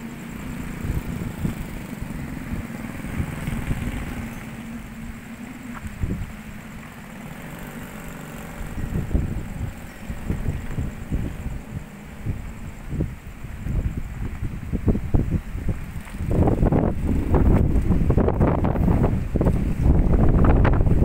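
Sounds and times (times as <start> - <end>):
low engine hum: 0.0 - 21.0
wind buffeting microphone: 0.0 - 21.0.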